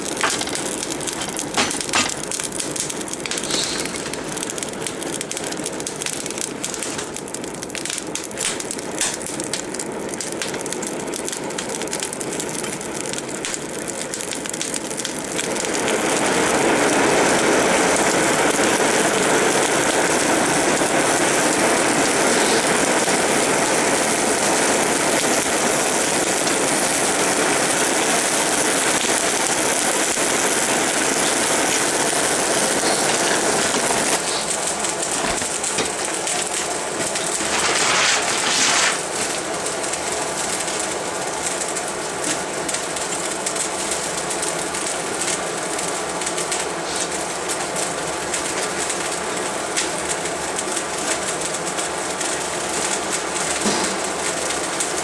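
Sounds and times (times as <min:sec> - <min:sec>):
forge fire rushing and crackling: 0:00.0 - 0:55.0.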